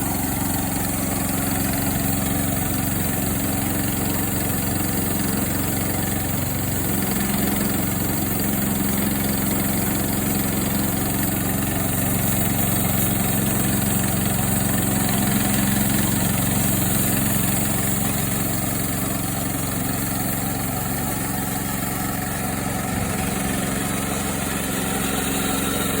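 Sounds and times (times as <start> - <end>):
bandsaw mill engine running: 0.0 - 26.0.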